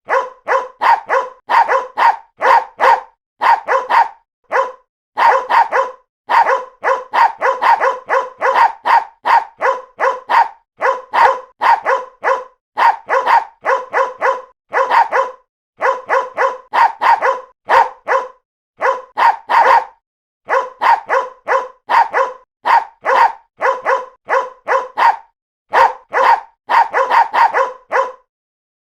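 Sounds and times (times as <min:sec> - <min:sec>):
dogs barking: 0:00.1 - 0:28.3.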